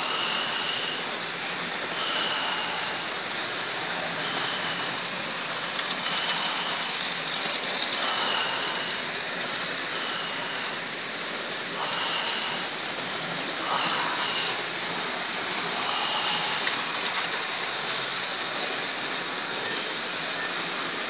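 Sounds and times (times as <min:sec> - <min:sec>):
model train motors whirring: 0:00.0 - 0:21.0.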